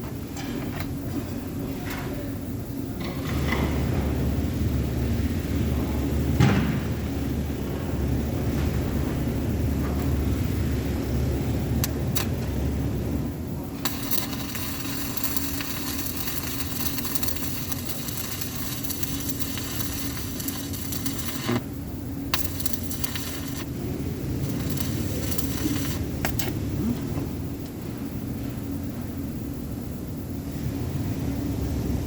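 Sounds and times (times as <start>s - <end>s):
arc welding crackling: 0.0s - 29.6s
low hum: 2.4s - 32.0s.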